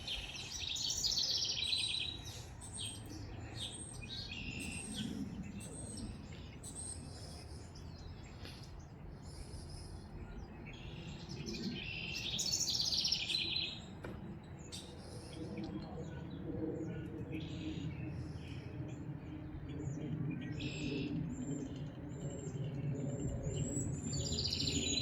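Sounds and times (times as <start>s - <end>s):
low wind: 0.0s - 25.0s.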